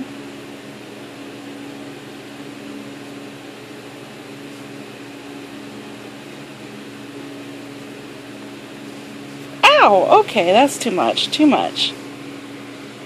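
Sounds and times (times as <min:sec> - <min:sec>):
steady low hum with hiss: 0:00.0 - 0:13.0.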